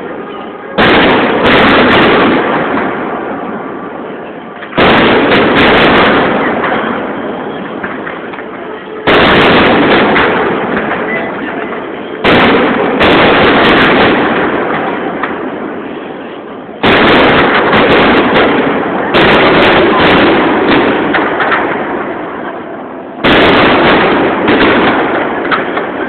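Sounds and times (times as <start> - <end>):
fireworks shells bursting: 0.0 - 22.4, 23.2 - 26.0
rumbling echo: 0.0 - 26.0.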